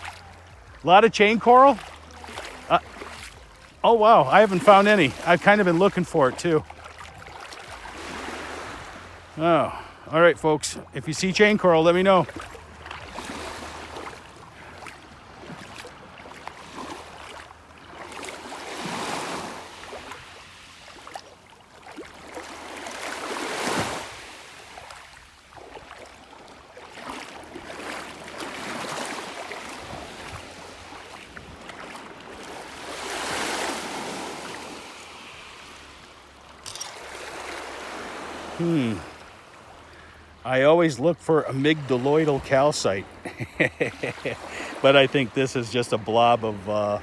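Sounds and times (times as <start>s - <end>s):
waves washing onto rocky beach: 0.0s - 47.0s.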